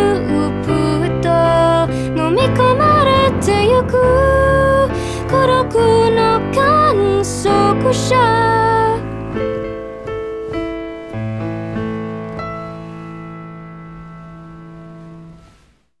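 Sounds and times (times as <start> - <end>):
piano chords: 0.0 - 15.6
sung note: 0.0 - 15.7.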